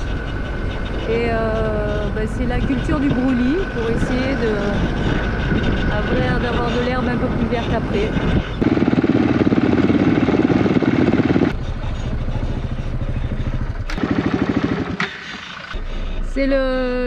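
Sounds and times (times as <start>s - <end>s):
vehicle engine working hard: 0.0s - 17.0s.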